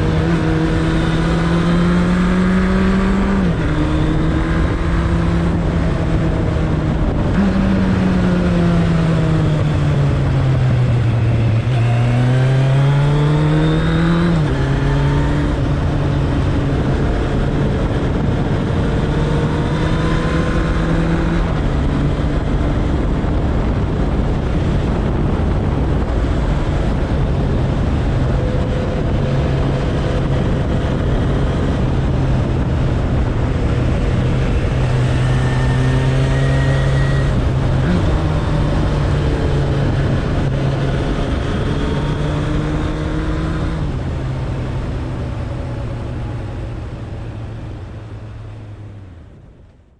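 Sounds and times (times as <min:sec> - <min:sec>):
motorcycle engine revving: 0:00.0 - 0:48.8
heavy wind rush: 0:00.0 - 0:49.9.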